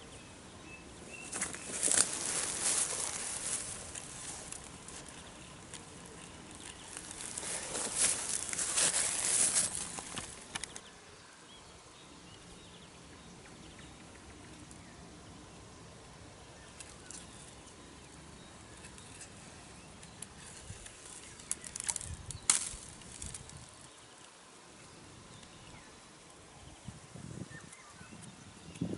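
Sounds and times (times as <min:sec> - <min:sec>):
rustles: 0:00.0 - 0:11.6, 0:13.5 - 0:28.9.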